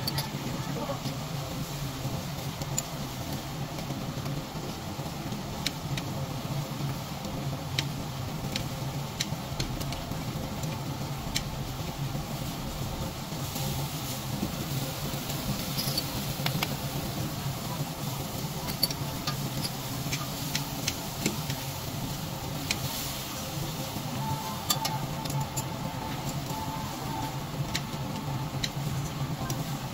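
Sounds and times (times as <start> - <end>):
meat sizzling on a grill: 0.0 - 29.9.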